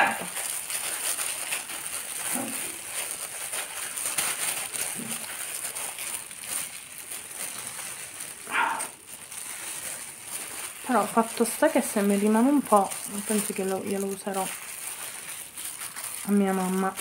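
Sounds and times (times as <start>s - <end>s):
plastic gloves rustling in wet hair: 0.0s - 17.0s.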